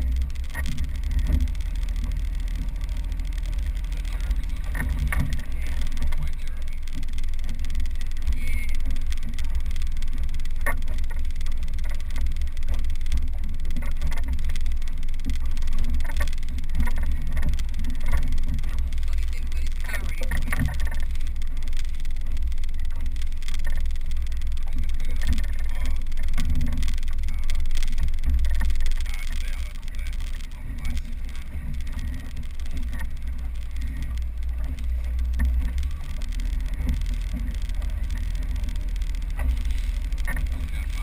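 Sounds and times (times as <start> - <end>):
water rushing along hull: 0.0 - 41.0.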